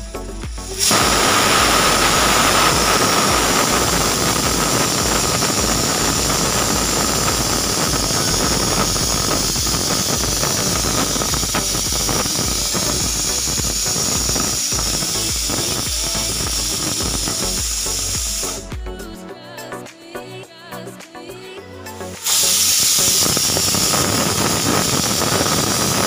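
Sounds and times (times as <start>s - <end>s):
pressure cooker whistling: 0.0s - 18.7s, 22.2s - 26.0s
pressure cooker steam hiss: 0.0s - 18.8s, 22.2s - 26.0s.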